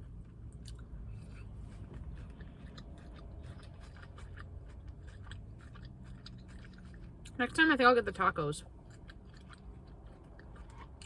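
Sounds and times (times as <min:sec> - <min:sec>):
chewing food: 0:00.0 - 0:11.0
steady low hum: 0:00.0 - 0:11.0.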